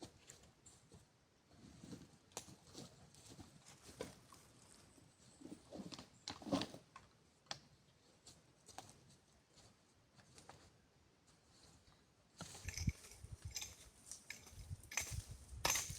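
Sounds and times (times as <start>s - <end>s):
rustling of handled things: 0.0s - 7.1s, 8.0s - 15.9s.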